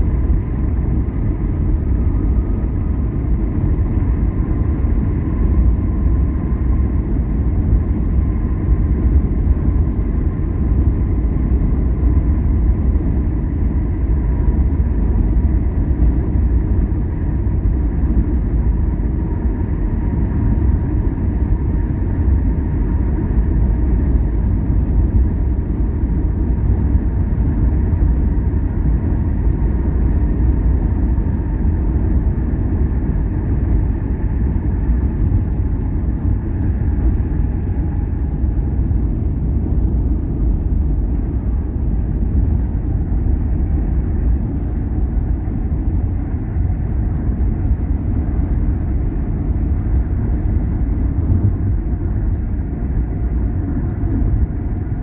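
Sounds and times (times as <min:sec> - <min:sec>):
car engine and tyres rumbling: 0:00.0 - 0:55.0
faint steady whine: 0:00.0 - 0:55.0.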